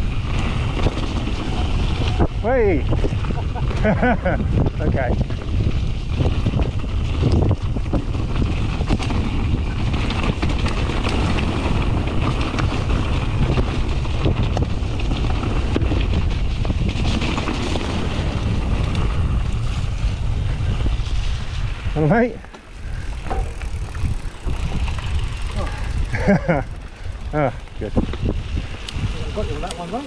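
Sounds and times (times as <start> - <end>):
bike clicks and rattles: 0.0 - 30.0
tyres rumbling on dirt: 0.0 - 30.0
wind buffeting microphone: 0.0 - 30.0.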